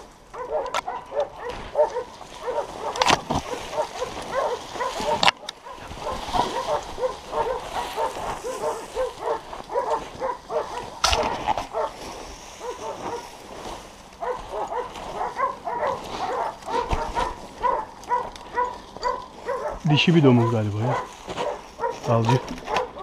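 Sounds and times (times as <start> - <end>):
dogs barking and baying: 0.0 - 23.0.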